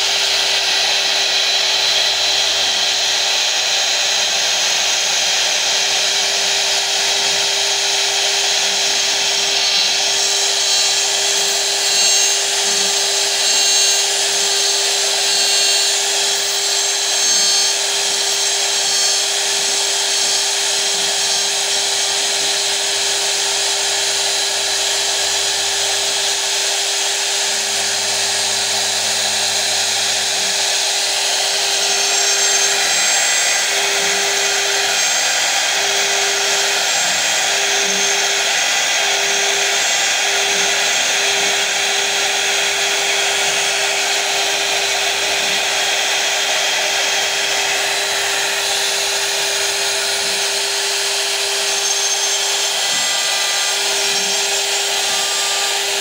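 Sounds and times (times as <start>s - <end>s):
router spindle whining: 0.0s - 56.0s
hiss of wood cutting: 5.6s - 56.0s.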